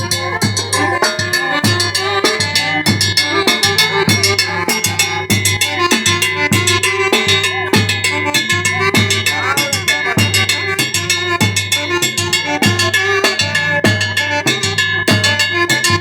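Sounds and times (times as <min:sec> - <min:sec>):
band music: 0:00.0 - 0:16.0
drum kit fast beat: 0:00.0 - 0:16.0.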